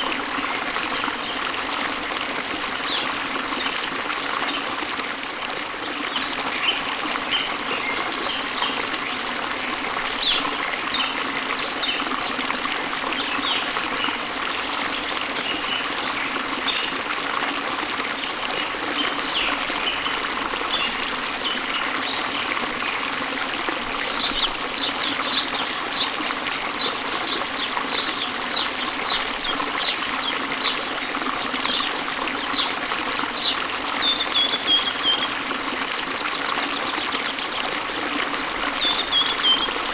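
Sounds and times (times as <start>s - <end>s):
running water splashing: 0.0s - 39.9s.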